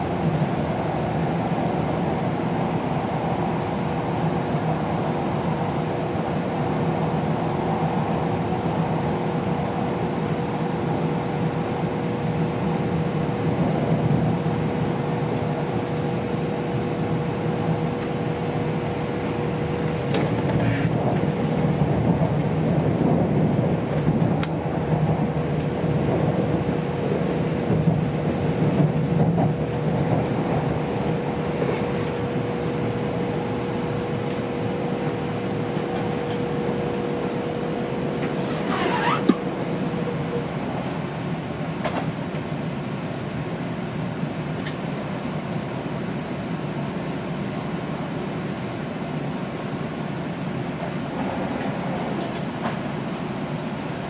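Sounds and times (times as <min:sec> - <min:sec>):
train cabin rumble and hum: 0:00.0 - 0:54.0.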